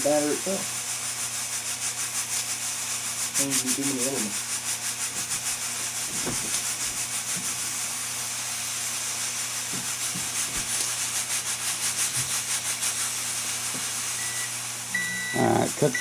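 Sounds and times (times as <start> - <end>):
pressure cooker steam hissing: 0.0 - 16.0.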